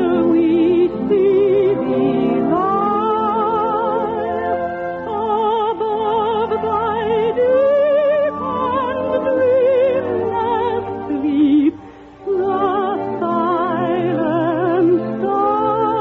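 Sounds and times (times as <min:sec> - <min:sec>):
musical accompaniment: 0:00.0 - 0:16.0
operatic singing with vibrato: 0:00.0 - 0:16.0.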